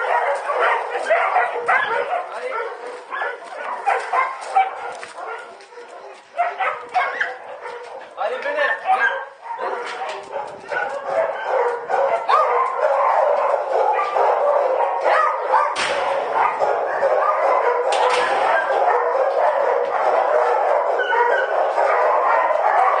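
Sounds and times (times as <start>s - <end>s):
dogs barking and yelping: 0.0s - 23.0s.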